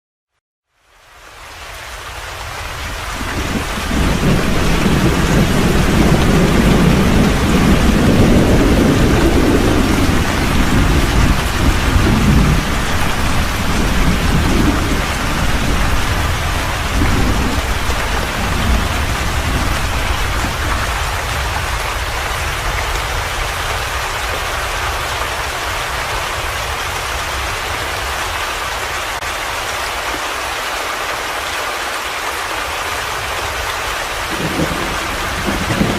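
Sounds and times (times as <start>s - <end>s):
heavy rain: 0.7s - 35.9s
thunder rumbling: 2.4s - 28.7s, 33.1s - 35.9s.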